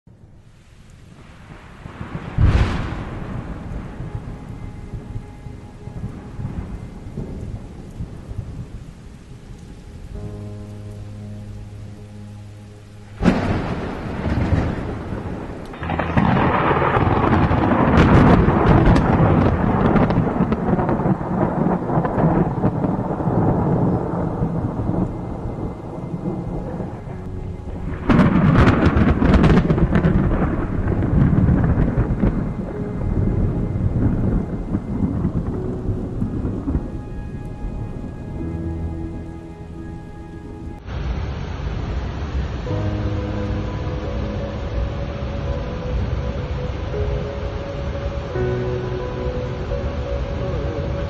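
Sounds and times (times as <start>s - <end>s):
heavy rain: 0.1s - 51.0s
thunder cracking and rumbling: 0.1s - 51.0s.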